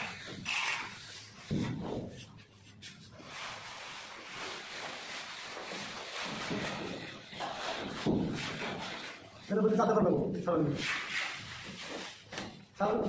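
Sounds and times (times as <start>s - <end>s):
plastering tool scraping plaster: 0.0s - 9.6s, 10.6s - 12.4s.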